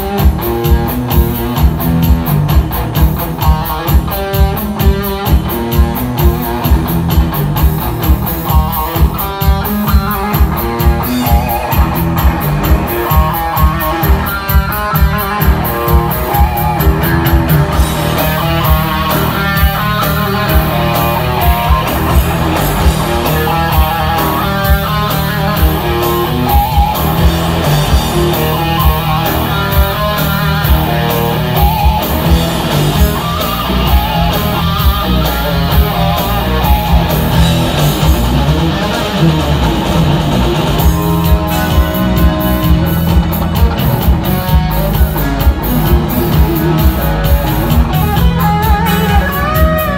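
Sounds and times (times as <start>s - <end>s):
distorted electric guitar lead: 0.0s - 49.9s
low bass: 0.0s - 49.9s
pounding drums: 0.0s - 49.9s.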